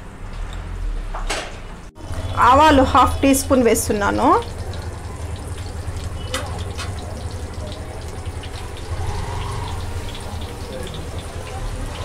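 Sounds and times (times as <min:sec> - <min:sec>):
frying hiss: 0:02.0 - 0:12.0.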